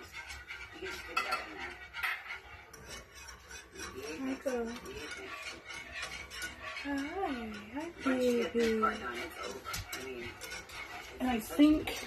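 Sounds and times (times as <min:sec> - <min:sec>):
whisk scraping a metal saucepan: 0:00.0 - 0:12.0.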